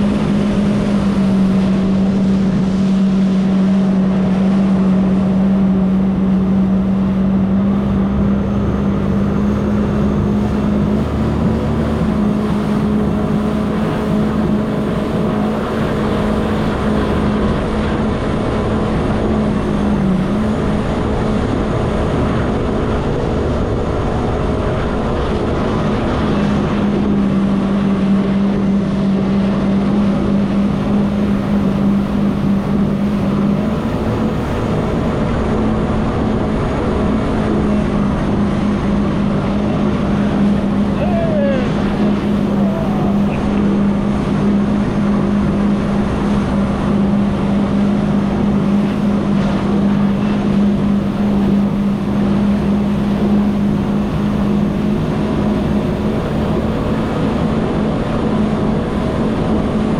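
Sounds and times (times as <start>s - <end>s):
jet ski engine running: 0.0s - 59.9s
water and wind noise: 0.0s - 59.9s.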